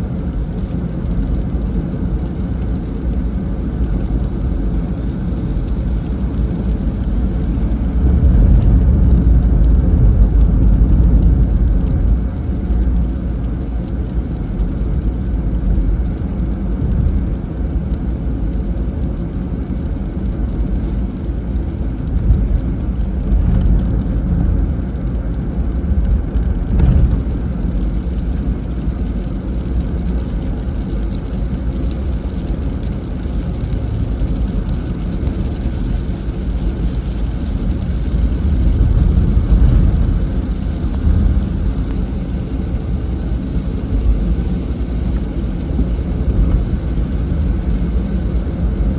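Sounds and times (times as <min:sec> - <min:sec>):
tyres on wet road: 0:00.0 - 0:48.9.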